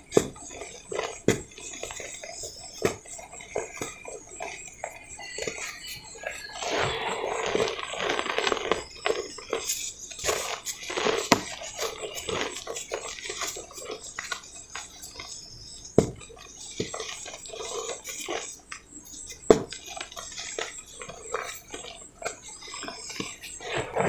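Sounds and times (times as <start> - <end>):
dry cement crunching: 0.0 - 24.0.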